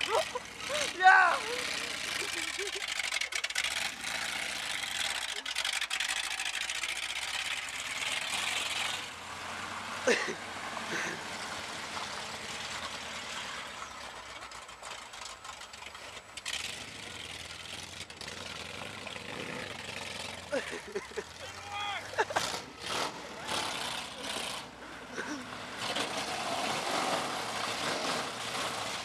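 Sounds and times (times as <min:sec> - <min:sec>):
tyres on gravel: 0:00.0 - 0:29.0
van engine running: 0:00.0 - 0:29.0.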